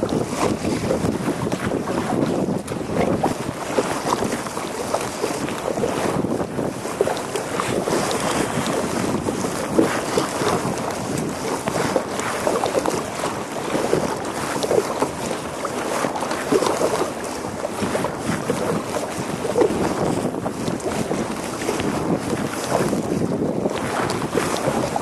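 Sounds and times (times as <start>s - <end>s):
water splashing against kayak hull: 0.0s - 25.0s
wind buffeting microphone: 0.0s - 25.0s.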